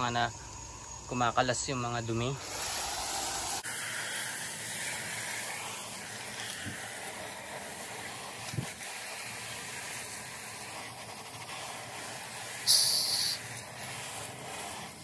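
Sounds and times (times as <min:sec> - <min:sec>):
water spraying from hose nozzle: 0:02.4 - 0:15.0.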